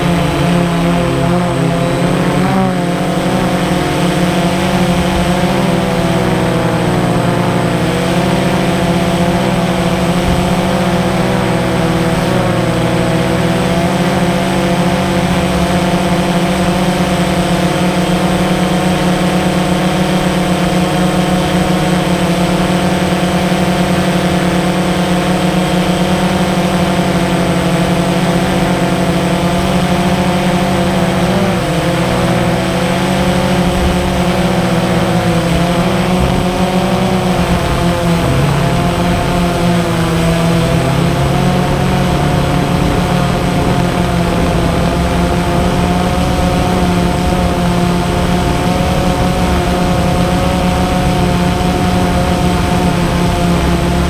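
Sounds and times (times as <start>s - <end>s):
drone motors humming: 0.0s - 54.0s.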